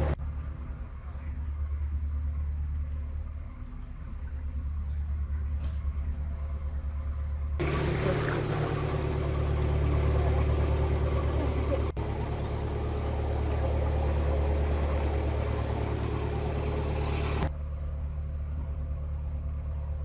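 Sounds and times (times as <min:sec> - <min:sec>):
diesel boat engine running: 0:00.0 - 0:20.0.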